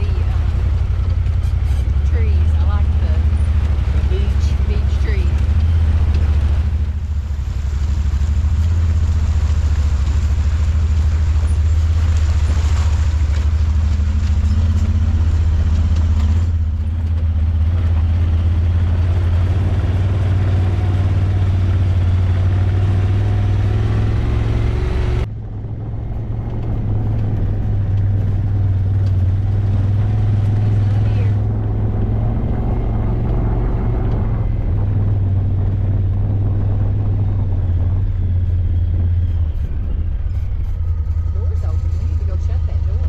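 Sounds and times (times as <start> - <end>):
road and wind noise: 0.0 - 43.0
vehicle engine droning: 0.0 - 43.0.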